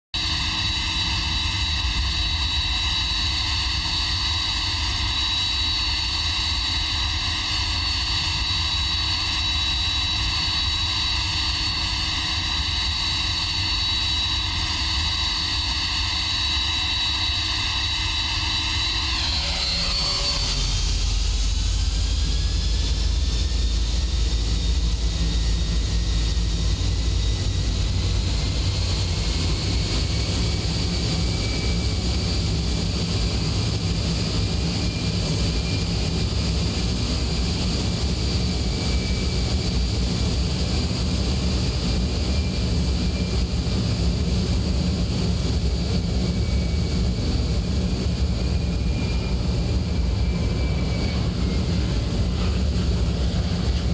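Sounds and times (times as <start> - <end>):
jet engines at takeoff thrust: 0.0 - 53.9.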